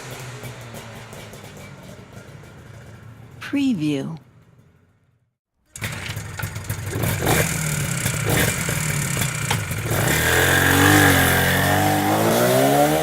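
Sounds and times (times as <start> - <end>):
motorcycle engine revving: 0.0 - 3.4, 5.6 - 13.0.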